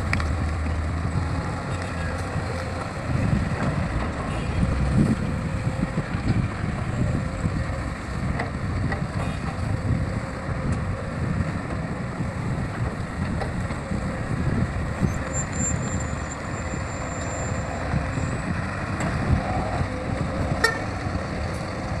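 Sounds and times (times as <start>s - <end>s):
diesel machinery rumbling: 0.0s - 22.0s.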